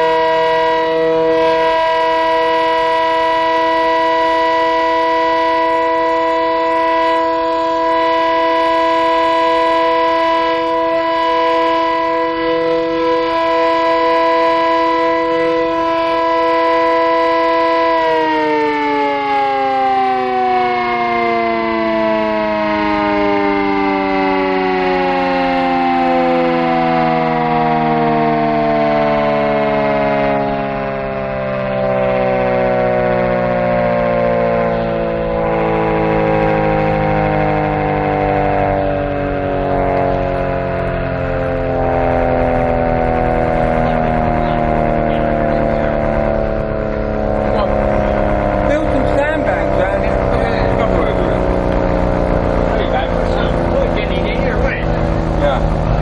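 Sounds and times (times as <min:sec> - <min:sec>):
air raid siren winding down: 0:00.0 - 0:56.0.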